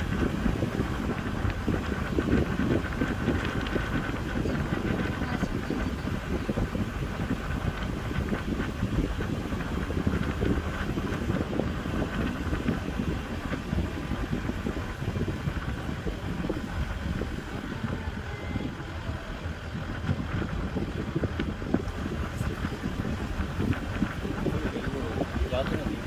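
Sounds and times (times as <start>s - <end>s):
road and engine rumble: 0.0s - 26.0s
wind buffeting microphone: 0.0s - 26.0s.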